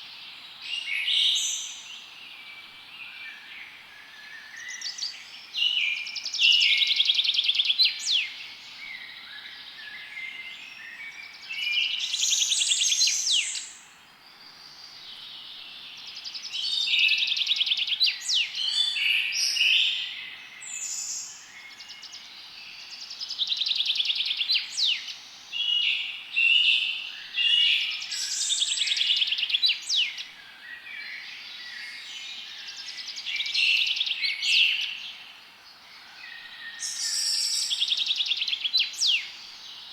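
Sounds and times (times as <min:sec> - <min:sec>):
faint background hiss: 0:00.0 - 0:39.9
songbirds trilling and chirping: 0:00.0 - 0:39.9.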